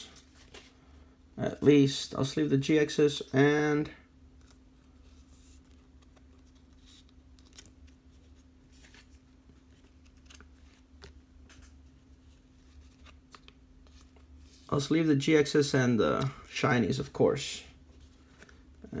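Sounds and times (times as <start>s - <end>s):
steady low hum: 0.0s - 19.0s
cards and plastic sleeves rustling: 0.1s - 0.8s, 4.3s - 19.0s.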